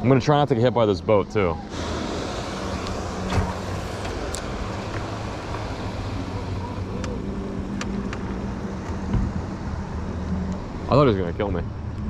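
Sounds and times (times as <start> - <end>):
motorboat engine humming: 0.0 - 12.0
wind: 0.0 - 12.0
water noise: 1.1 - 12.0.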